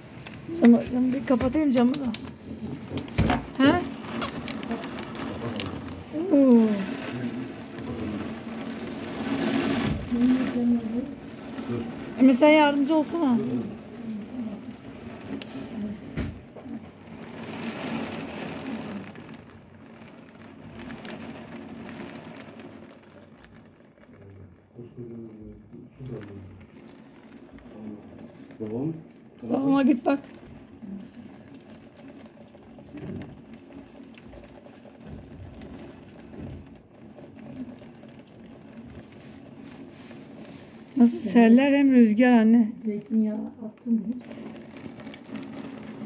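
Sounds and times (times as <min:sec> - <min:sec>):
heavy rain on window glass: 0:00.0 - 0:46.0
sharp rain ticks: 0:00.0 - 0:46.0.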